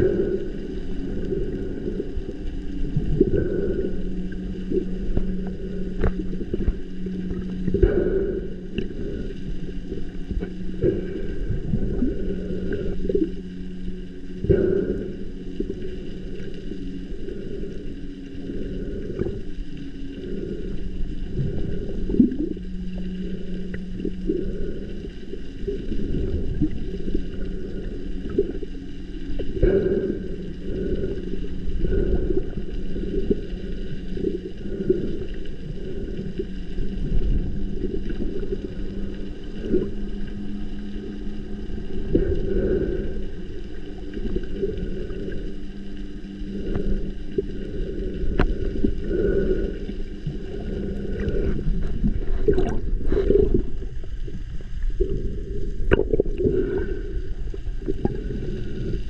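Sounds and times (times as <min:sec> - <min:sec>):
underwater boat motor hum: 0:00.0 - 0:59.0
underwater crackling: 0:00.0 - 0:59.0.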